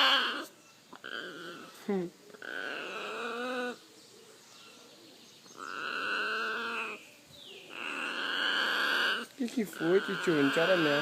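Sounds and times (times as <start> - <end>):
macaw harsh calls: 0.0 - 3.8, 5.5 - 11.0.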